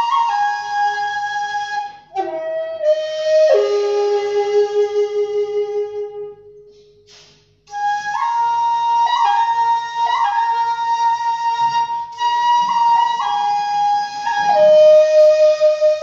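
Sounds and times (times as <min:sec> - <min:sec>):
bamboo flute playing: 0:00.0 - 0:16.0.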